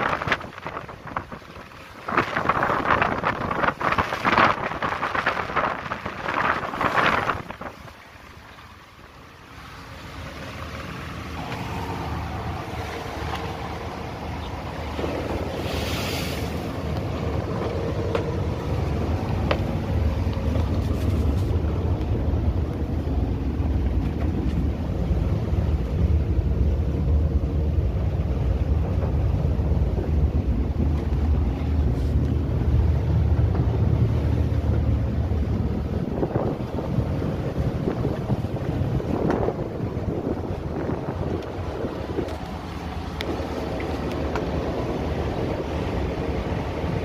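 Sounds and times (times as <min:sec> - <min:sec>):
wind buffeting microphone: 0:00.0 - 0:08.8, 0:11.4 - 0:47.0
boat engine running: 0:00.0 - 0:47.0.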